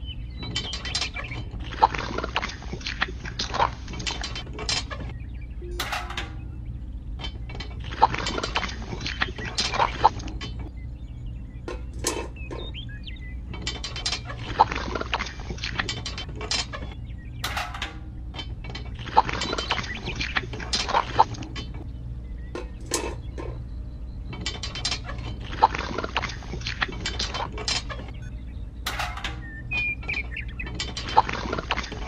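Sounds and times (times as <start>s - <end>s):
steady low hum: 0.0s - 32.0s
plastic toys clicking and scraping: 0.3s - 6.6s, 7.2s - 10.8s, 11.6s - 12.8s, 13.4s - 32.0s.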